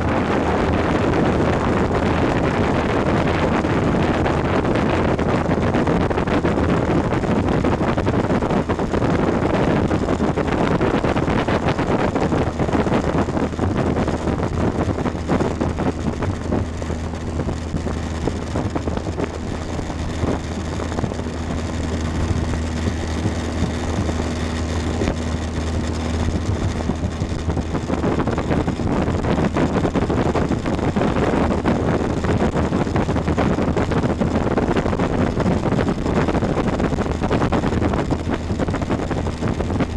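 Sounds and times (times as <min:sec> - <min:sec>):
motorboat engine humming: 0:00.0 - 0:39.9
wind buffeting microphone: 0:00.0 - 0:39.9.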